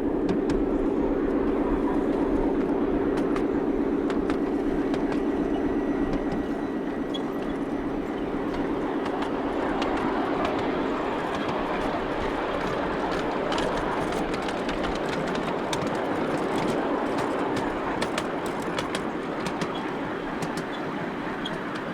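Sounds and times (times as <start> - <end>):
miniature train hum: 0.0 - 21.9
wheels clicking on rails: 0.0 - 21.9.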